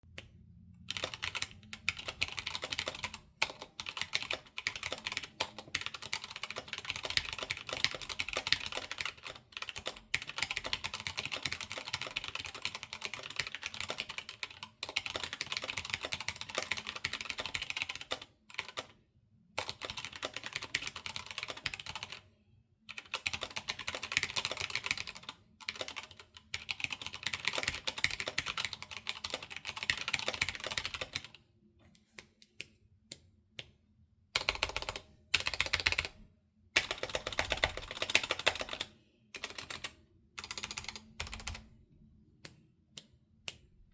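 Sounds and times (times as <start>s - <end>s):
typing on mechanical keyboard: 0.8s - 19.0s, 19.6s - 22.2s, 22.9s - 31.4s, 34.4s - 36.2s, 36.8s - 41.7s.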